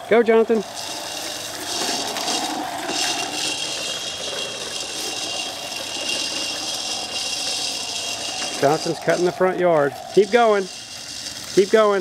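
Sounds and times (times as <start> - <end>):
thin steady whine: 0.0 - 12.0
toy electronic engine sound: 0.0 - 12.0.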